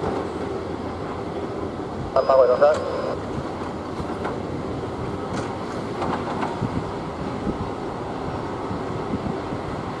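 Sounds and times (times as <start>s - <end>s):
distant jet engines taxiing: 0.0s - 10.0s.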